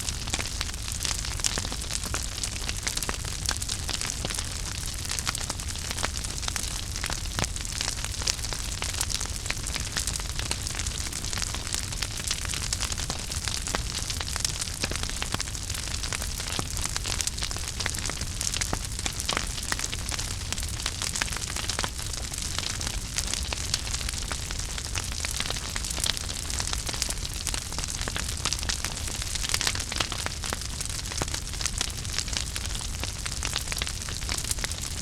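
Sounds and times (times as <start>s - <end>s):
flames hissing and rumbling: 0.0s - 35.0s
wood fire crackling and popping: 0.0s - 35.0s.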